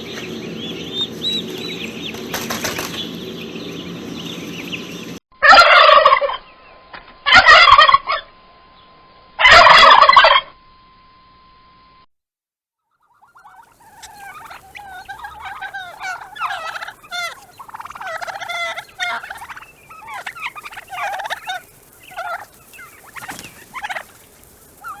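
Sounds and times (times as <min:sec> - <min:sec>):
turkeys gobbling: 0:00.1 - 0:08.3, 0:09.4 - 0:10.5, 0:12.9 - 0:25.0.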